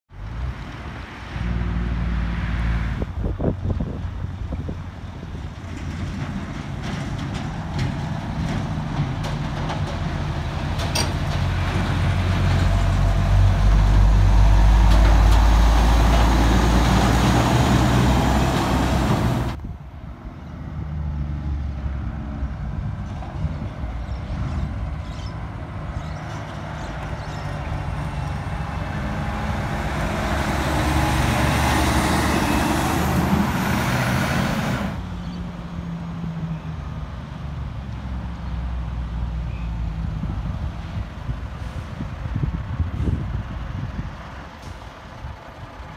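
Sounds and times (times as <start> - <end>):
diesel trucks driving past: 0.1 - 45.9.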